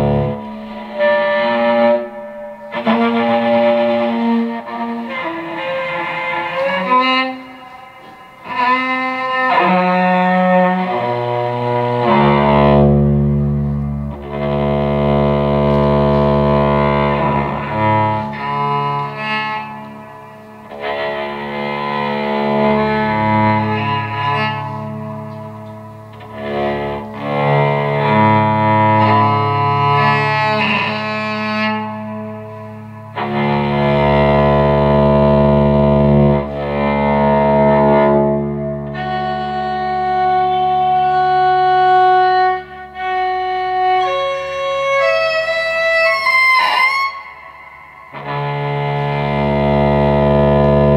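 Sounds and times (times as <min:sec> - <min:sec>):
electric cello bowed low notes: 0:00.0 - 0:50.9.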